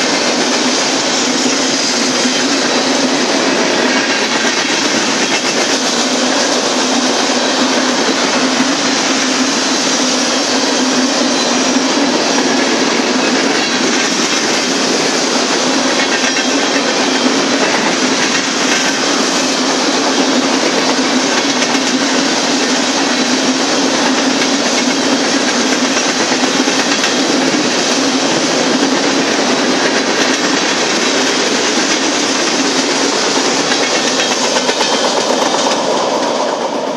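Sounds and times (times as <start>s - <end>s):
clickety-clack over rail joints: 0.0s - 36.9s
train wheels on rails: 0.0s - 36.9s.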